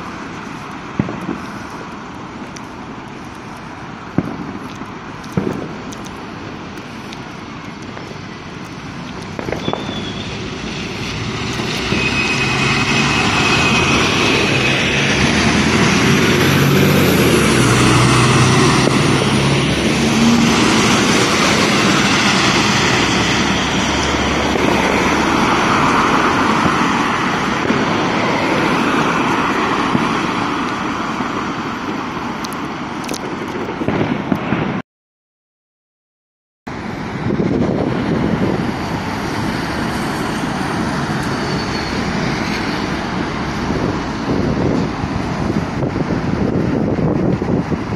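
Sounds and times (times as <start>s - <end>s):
coach passing on wet road: 0.0s - 34.8s, 36.7s - 47.9s
traffic rushing: 0.0s - 34.8s, 36.7s - 47.9s.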